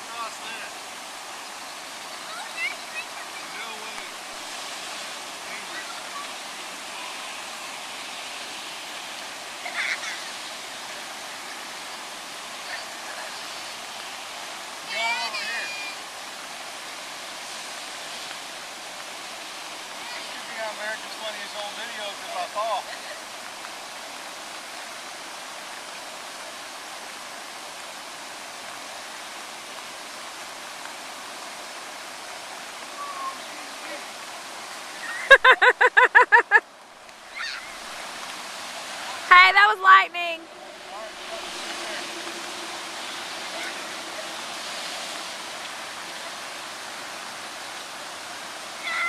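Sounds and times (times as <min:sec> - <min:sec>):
floodwater rushing: 0:00.0 - 0:49.0.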